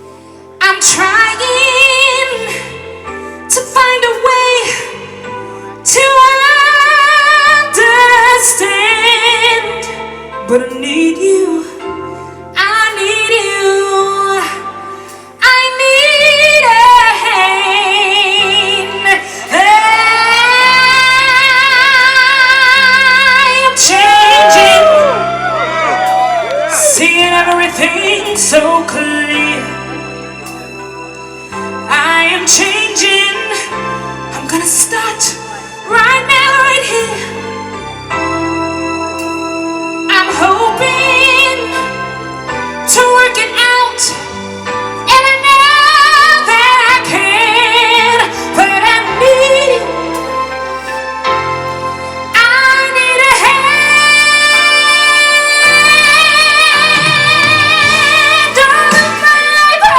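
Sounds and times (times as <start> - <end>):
backing track music: 0.0 - 59.9
woman singing with vibrato: 0.6 - 11.8, 12.5 - 30.2, 31.9 - 37.7, 40.1 - 42.2, 45.0 - 51.0, 52.3 - 59.9.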